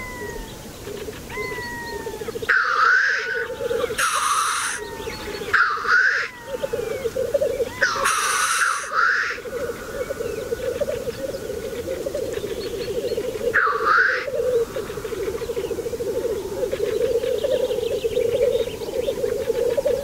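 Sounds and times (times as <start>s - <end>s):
loud hissing bird call: 0.0s - 12.0s, 13.1s - 17.4s
grouse bubbling chorus: 2.3s - 20.0s.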